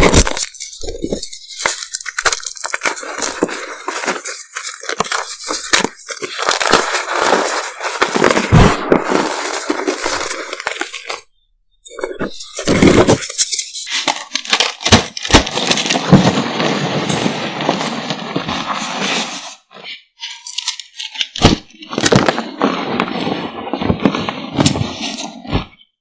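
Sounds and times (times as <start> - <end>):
chalk cracking and crunching: 0.0 - 11.3, 11.9 - 25.8.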